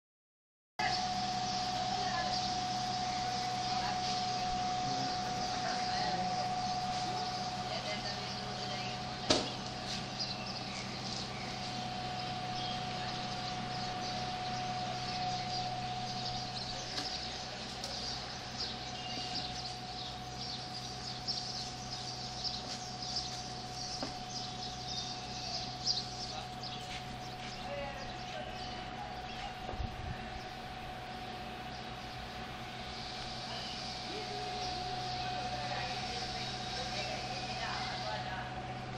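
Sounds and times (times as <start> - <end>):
faint steady hum: 0.8 - 38.9
small birds chirping: 0.8 - 38.9.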